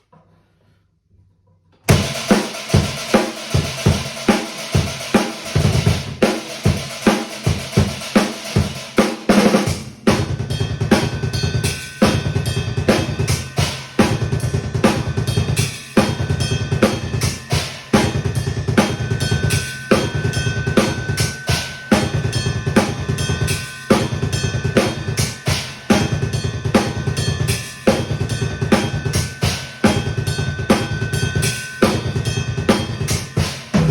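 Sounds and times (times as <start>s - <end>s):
drum kit playing steady beat: 1.9s - 33.9s.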